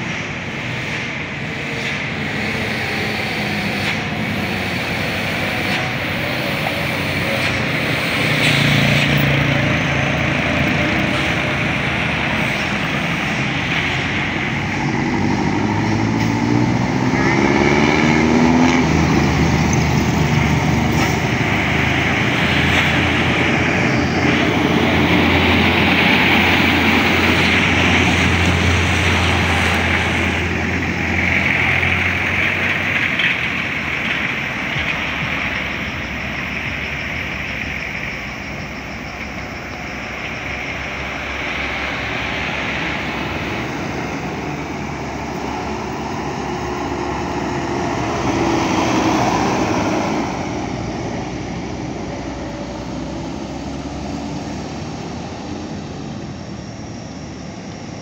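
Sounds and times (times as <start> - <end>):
heavy vehicle engine passing: 0.0 - 58.0
road noise: 0.0 - 58.0.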